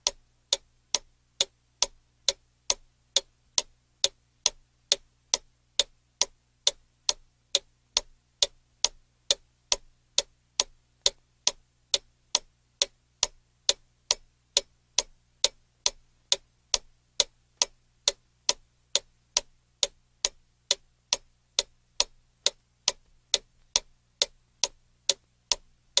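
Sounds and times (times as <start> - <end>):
clock ticking: 0.0 - 26.0.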